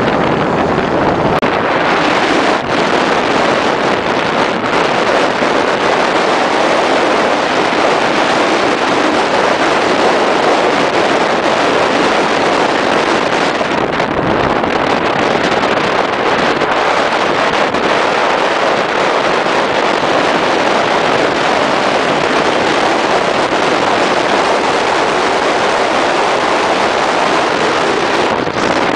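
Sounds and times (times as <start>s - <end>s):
motorcycle road noise: 0.0s - 28.9s
wind on microphone: 0.0s - 28.9s.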